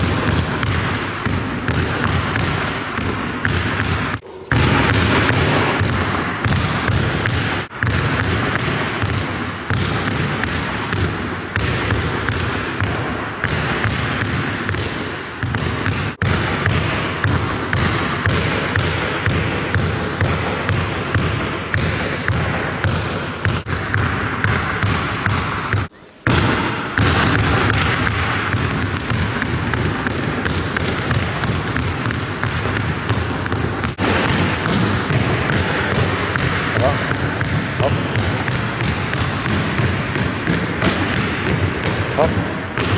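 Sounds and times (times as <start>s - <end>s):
basketballs bouncing on court: 0.0s - 42.9s.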